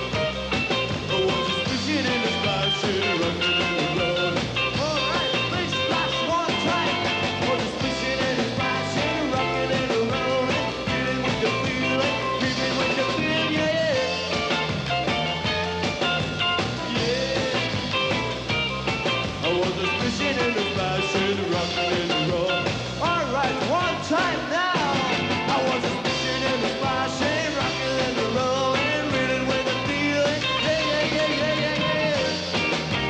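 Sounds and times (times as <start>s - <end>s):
live rock and roll band playing: 0.0s - 33.0s.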